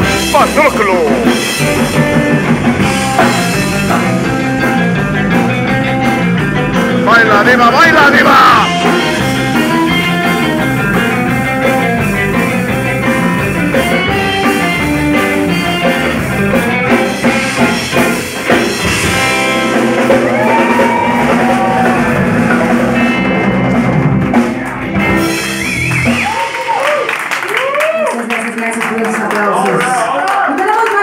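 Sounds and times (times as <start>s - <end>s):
drum kit: 0.0s - 29.3s
electric guitars: 0.0s - 31.0s.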